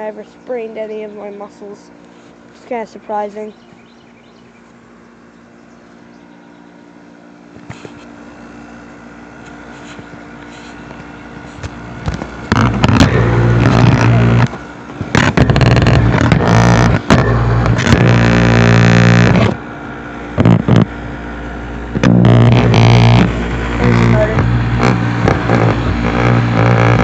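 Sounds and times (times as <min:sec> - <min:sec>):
air conditioner humming: 0:00.0 - 0:27.0
loud droning machine: 0:00.0 - 0:27.0.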